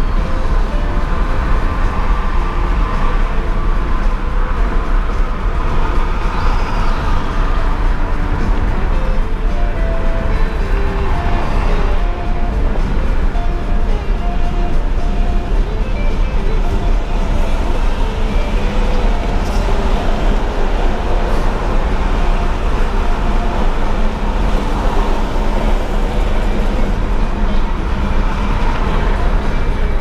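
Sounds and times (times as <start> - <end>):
road and engine noise in cab: 0.0 - 30.0.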